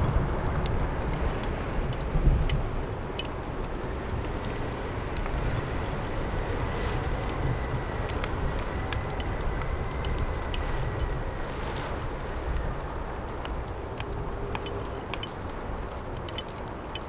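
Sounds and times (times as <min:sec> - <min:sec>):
small scattered clicks: 0:00.0 - 0:17.0
wind blowing: 0:00.0 - 0:17.0.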